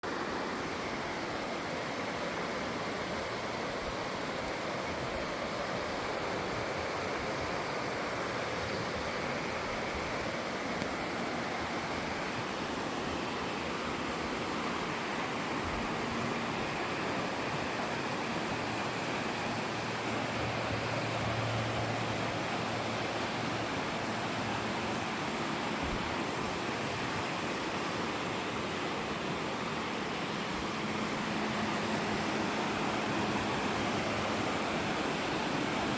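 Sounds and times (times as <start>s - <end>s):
water flowing: 0.0s - 35.9s.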